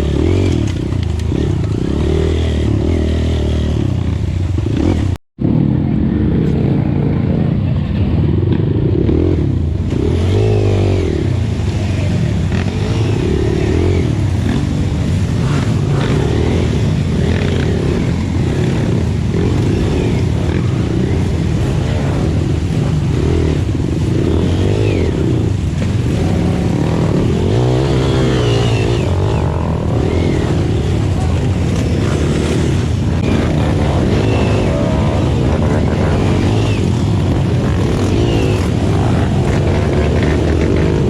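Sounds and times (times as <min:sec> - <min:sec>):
dirt bike engine revving: 0:00.0 - 0:05.2, 0:08.9 - 0:41.0.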